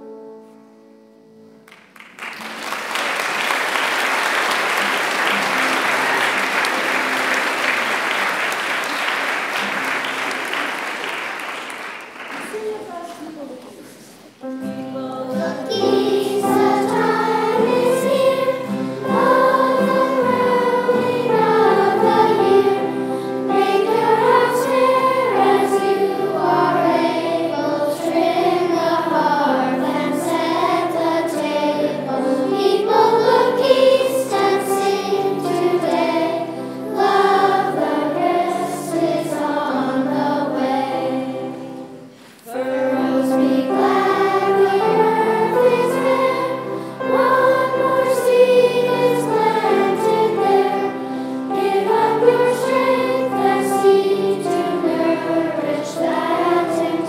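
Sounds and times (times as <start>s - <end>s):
choir singing: 3.2s - 11.1s, 14.4s - 57.0s.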